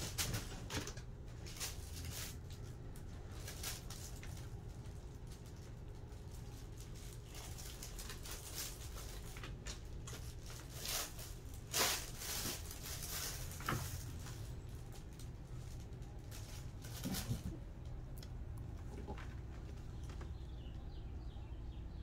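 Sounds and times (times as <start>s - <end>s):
kittens' paws scrabbling: 0.0s - 20.6s.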